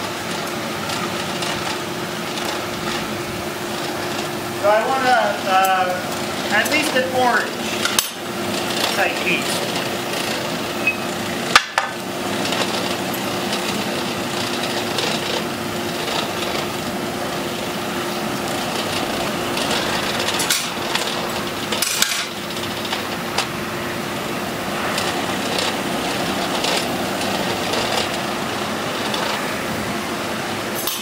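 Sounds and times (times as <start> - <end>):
forge blower rushing hum: 0.0 - 31.0.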